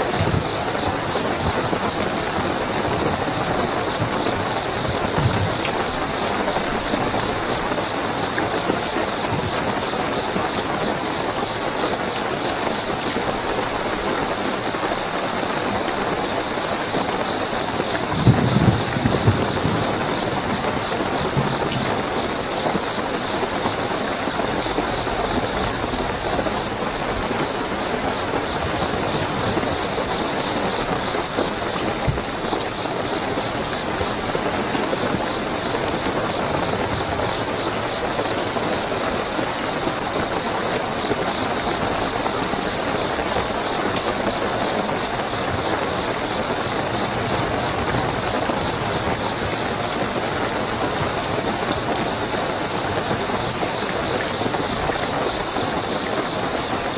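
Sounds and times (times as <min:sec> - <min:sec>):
crickets chirping: 0:00.0 - 0:56.9
heavy rainfall: 0:00.0 - 0:56.9.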